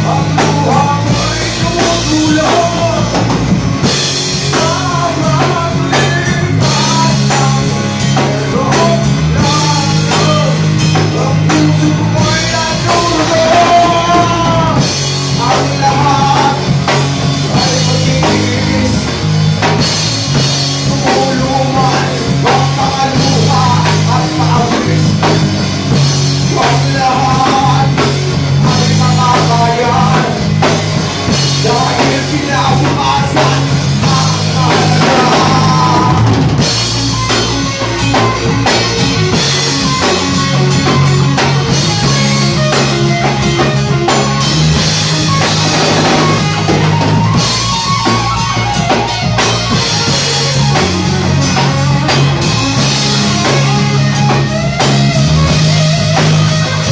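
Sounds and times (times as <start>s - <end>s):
bass notes: 0.0s - 56.9s
drum kit with cymbals: 0.0s - 56.9s
electric guitar: 0.0s - 56.9s.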